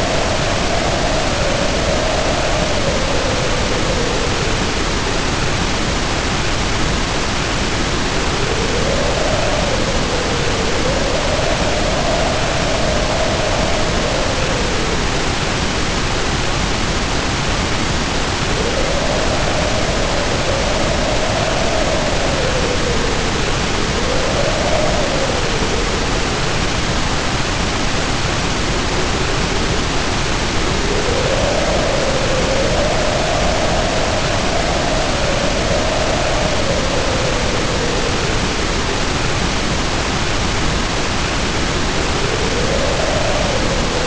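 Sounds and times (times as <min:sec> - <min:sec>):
heavy rain pouring: 0:00.0 - 0:44.0
wind howling: 0:00.0 - 0:44.0.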